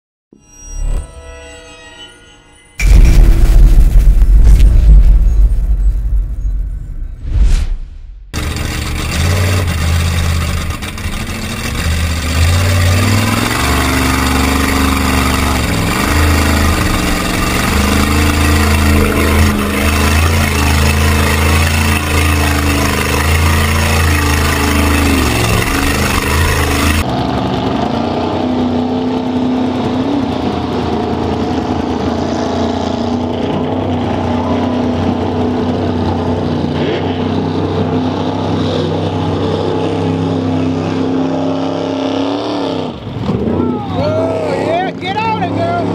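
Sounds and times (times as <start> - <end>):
truck engine revving: 2.8 - 45.9.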